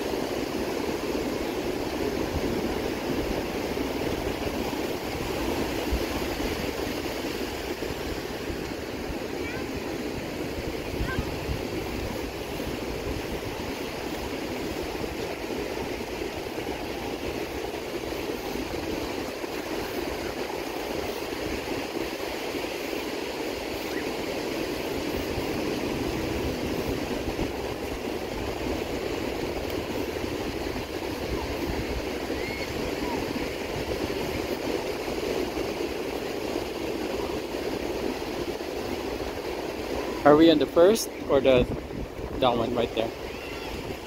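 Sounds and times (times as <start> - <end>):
ocean surf breaking on beach: 0.0 - 44.0.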